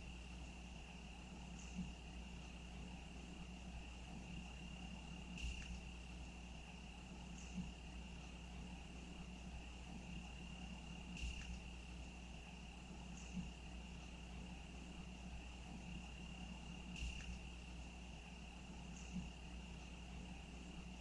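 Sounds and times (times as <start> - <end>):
cricket trilling: 0.0 - 21.0
low background hum: 0.0 - 21.0.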